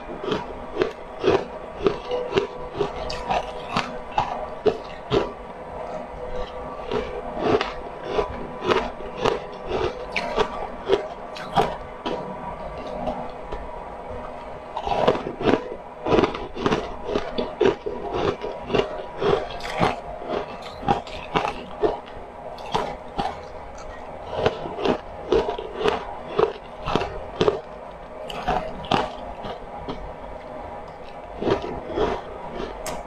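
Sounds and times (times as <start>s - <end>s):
crunching and chewing ice balls: 0.0s - 33.0s.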